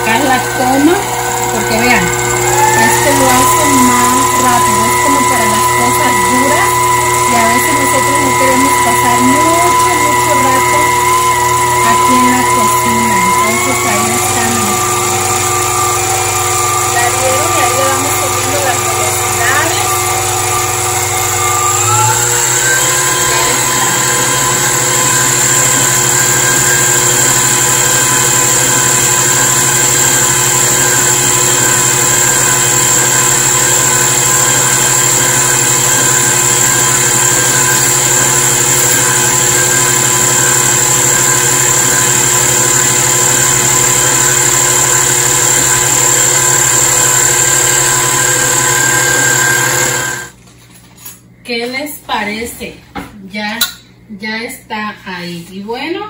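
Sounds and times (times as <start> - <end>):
stand mixer motor whining: 0.0 - 50.4.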